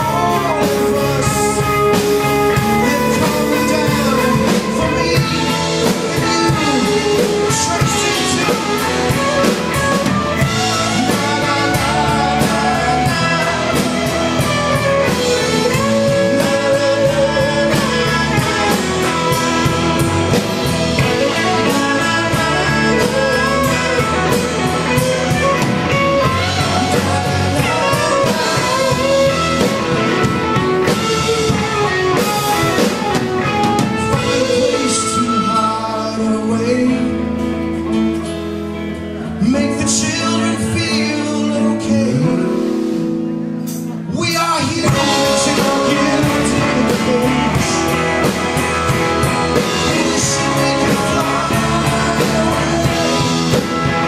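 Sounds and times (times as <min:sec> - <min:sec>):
bending lead guitar line: 0:00.0 - 0:54.0
live rock band playing: 0:00.0 - 0:54.0.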